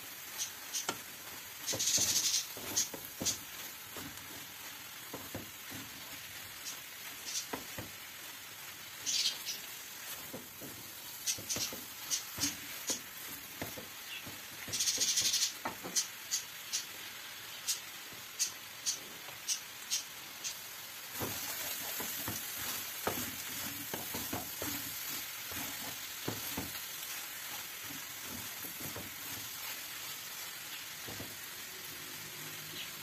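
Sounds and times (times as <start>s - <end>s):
herbs sizzling in pot: 0.0s - 33.0s.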